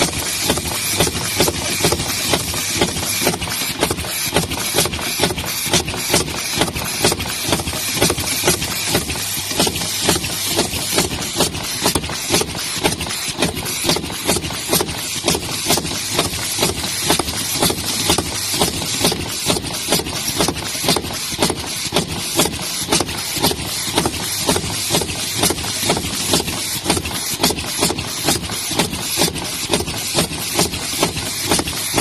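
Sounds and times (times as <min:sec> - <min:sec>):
steady mechanical noise: 0:00.0 - 0:32.0
tyre-studding machine clacking: 0:00.0 - 0:32.0.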